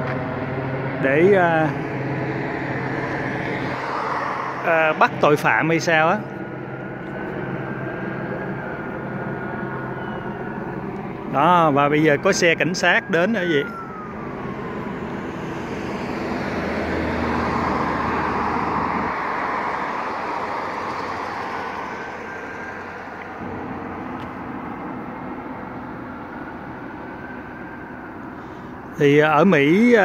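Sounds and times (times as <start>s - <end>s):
background traffic: 0.0s - 30.0s
car passing: 0.0s - 30.0s.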